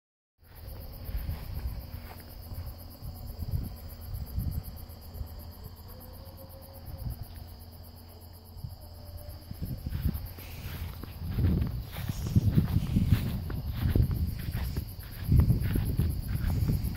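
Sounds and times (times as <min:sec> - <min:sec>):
insects chirping: 0:00.4 - 0:16.9
low rumble on microphone: 0:00.4 - 0:16.9.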